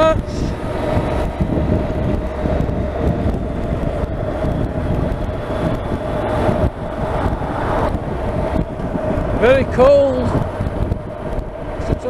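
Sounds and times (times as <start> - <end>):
motorcycle engine drone: 0.0 - 12.0
wind rumble on microphone: 0.0 - 12.0.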